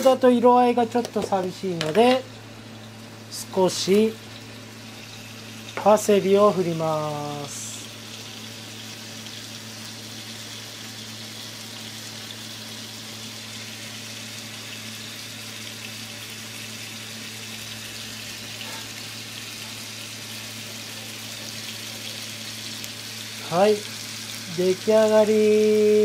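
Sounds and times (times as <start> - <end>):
steady low hum: 0.0 - 24.7
oil sizzling in a skillet: 0.0 - 26.0.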